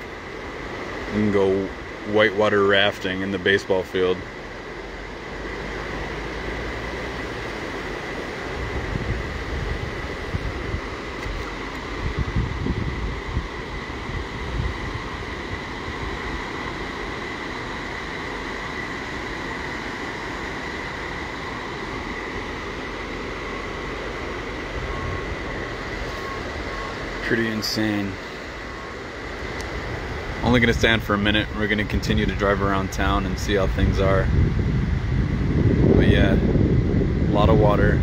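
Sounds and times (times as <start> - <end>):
floodwater rushing: 0.0 - 38.0
low rumbles: 0.0 - 38.0.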